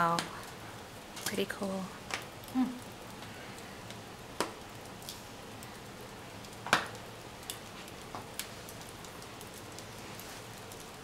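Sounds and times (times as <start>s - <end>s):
burning logs popping: 0.0s - 11.0s
wood fire crackling: 0.0s - 11.0s.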